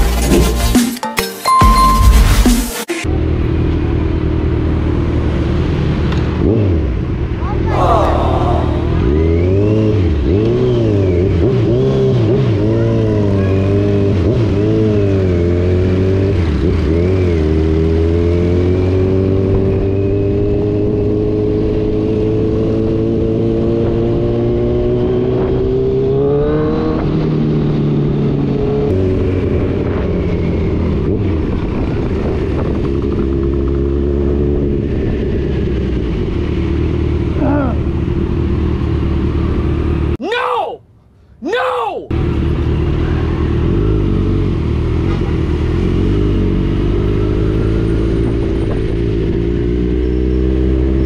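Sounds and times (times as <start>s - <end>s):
vehicle engine revving: 3.0s - 40.2s, 42.1s - 51.0s.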